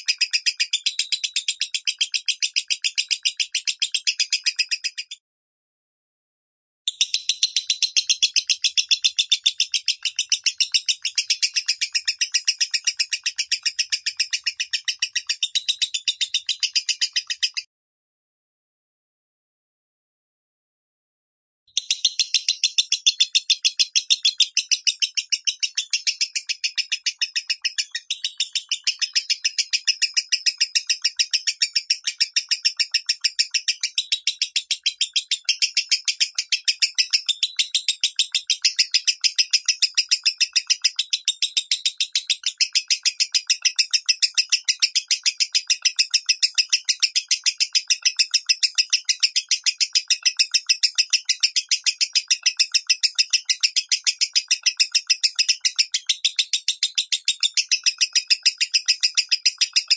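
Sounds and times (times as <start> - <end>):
lovebird chirping: 0.0 - 5.2, 6.9 - 17.7, 21.8 - 59.9.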